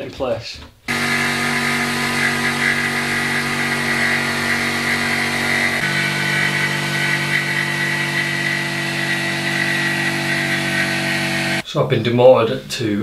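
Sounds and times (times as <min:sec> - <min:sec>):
electric jigsaw cutting board: 0:00.9 - 0:11.6.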